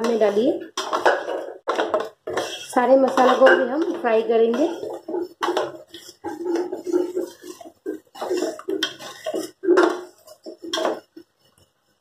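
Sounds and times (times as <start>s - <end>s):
spatula scraping paste in pot: 0.0s - 11.7s.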